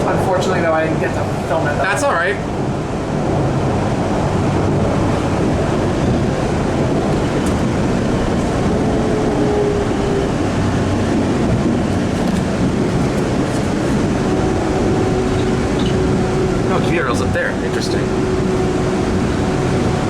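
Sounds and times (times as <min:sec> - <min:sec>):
subway car wheels rumbling on rail: 0:00.0 - 0:20.0.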